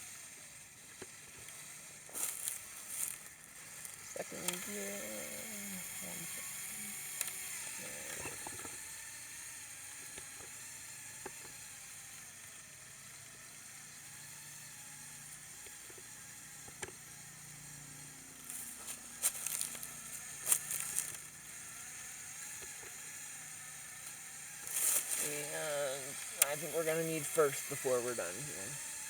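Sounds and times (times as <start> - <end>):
electric motor and gearbox hum: 0.0 - 29.0.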